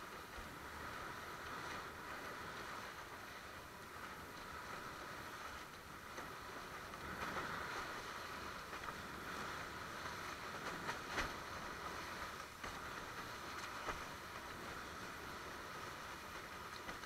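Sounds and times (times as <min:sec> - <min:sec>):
water and wind rushing: 0:00.0 - 0:17.0.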